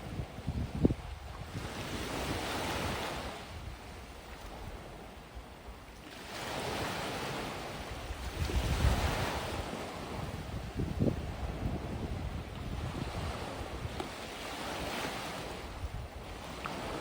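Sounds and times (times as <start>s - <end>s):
wind buffeting microphone: 0.0s - 5.8s, 6.6s - 17.0s
sea waves washing onto beach: 1.1s - 17.0s.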